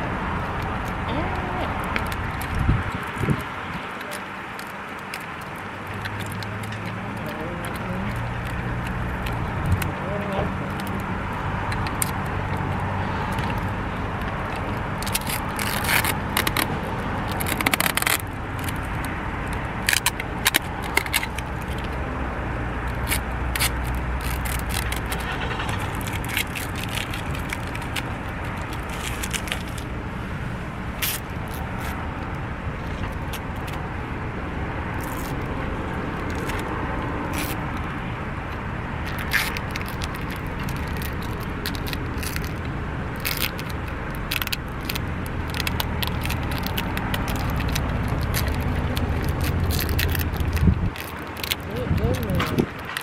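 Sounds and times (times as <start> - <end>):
packing tape crackling: 0.4 - 22.0, 22.8 - 30.0, 34.9 - 53.0.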